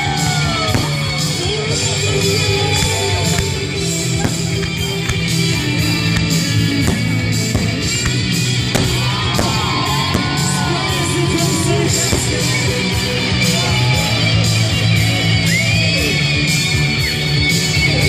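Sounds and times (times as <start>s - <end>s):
rock music with guitar: 0.0s - 18.0s.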